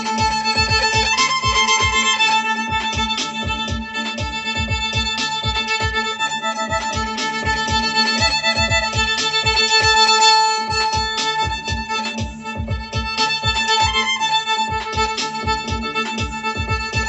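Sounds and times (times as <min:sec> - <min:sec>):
bowed melody: 0:00.0 - 0:17.0
hand drum beating: 0:00.0 - 0:17.0.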